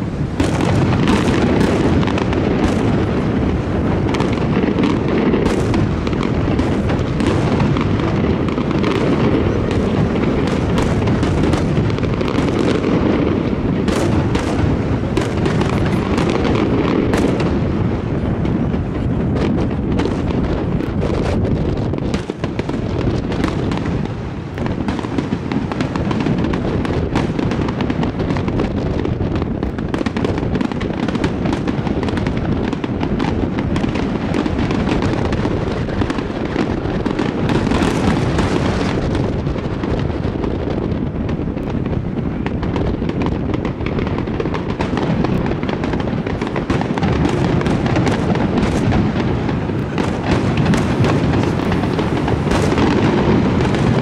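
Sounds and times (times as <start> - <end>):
fireworks launching and bursting: 0.0 - 54.0.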